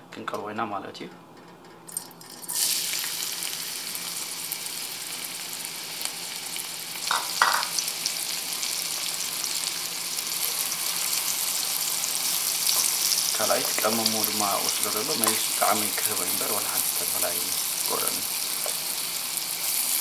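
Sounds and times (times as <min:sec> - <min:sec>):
onion sizzling in hot oil: 0:01.9 - 0:20.0.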